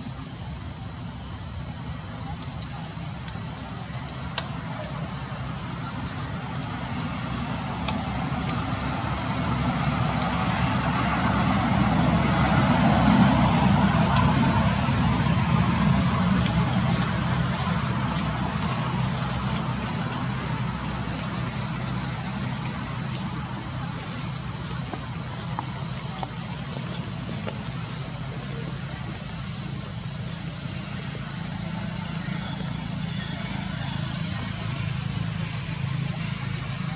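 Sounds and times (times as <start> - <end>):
high insect drone: 0.0 - 36.9
passing motor vehicle rumble: 0.6 - 36.9.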